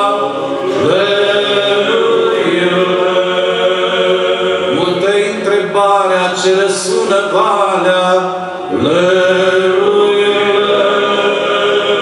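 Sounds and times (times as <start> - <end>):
men's choir singing: 0.0 - 12.0.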